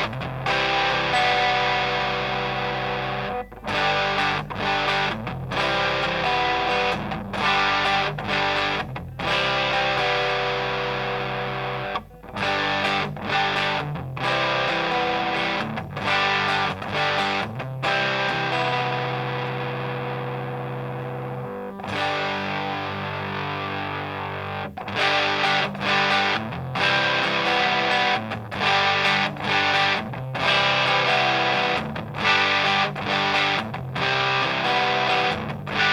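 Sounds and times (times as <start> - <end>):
overdriven electric guitar: 0.0 - 35.9.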